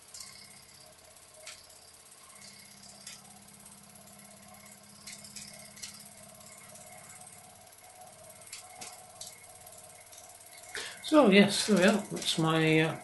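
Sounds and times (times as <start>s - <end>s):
model steam engine ticking: 0.0s - 13.0s.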